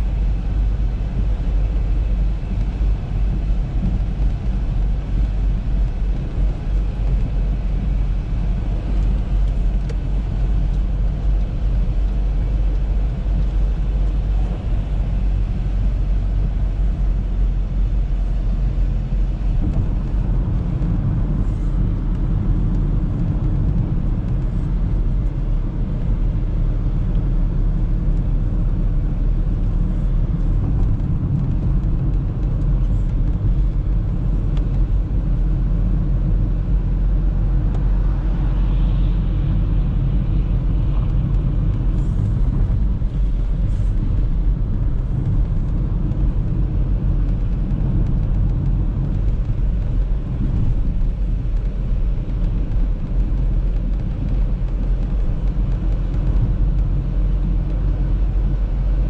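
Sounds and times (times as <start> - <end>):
car engine: 0.0 - 59.0
tyre road noise: 0.0 - 59.0.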